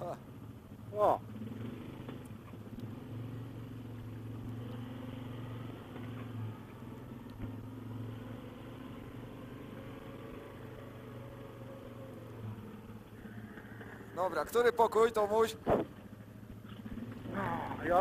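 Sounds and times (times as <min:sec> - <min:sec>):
quad engine running at low speed: 0:00.0 - 0:18.0.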